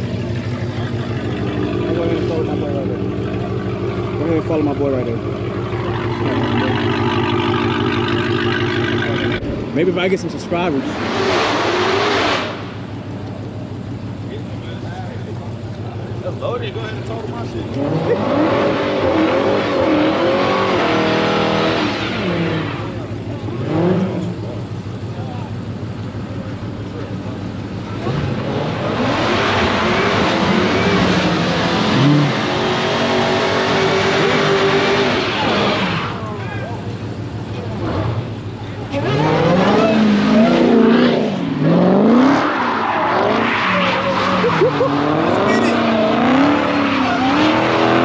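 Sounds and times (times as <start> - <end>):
car engine revving: 0.0 - 48.0
tyres skidding and squealing: 0.0 - 48.0.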